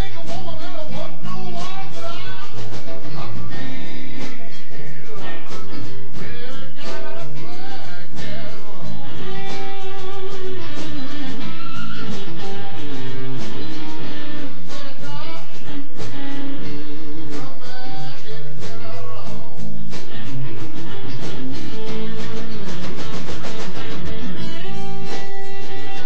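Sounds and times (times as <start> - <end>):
bass: 0.0 - 26.0
drums: 0.0 - 26.0
electric guitar with bending notes: 0.0 - 26.0.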